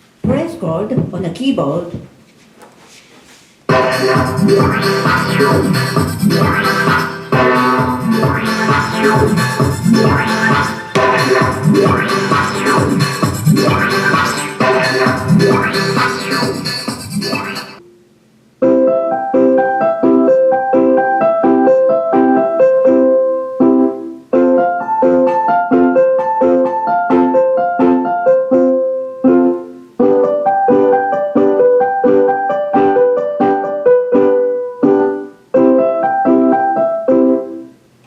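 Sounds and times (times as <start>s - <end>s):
piano block chords on keyboard: 3.7s - 18.0s, 18.6s - 37.8s.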